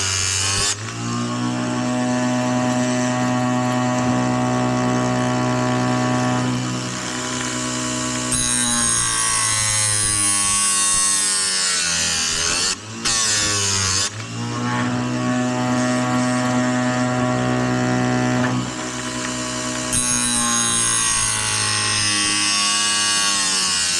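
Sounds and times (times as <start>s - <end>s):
grinder motor humming: 0.0s - 23.9s.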